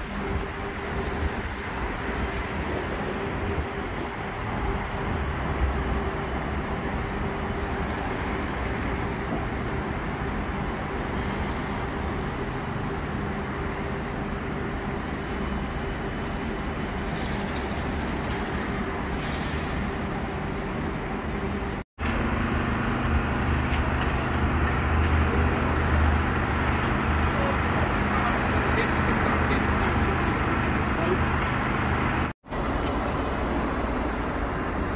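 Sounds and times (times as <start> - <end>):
passing cars and vans: 0.0 - 34.9.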